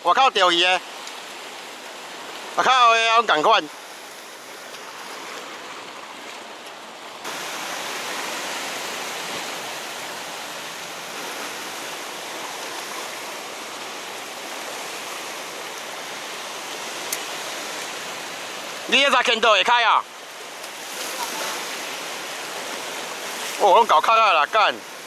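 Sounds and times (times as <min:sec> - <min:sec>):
surf washing over rocky shore: 0:00.0 - 0:25.0.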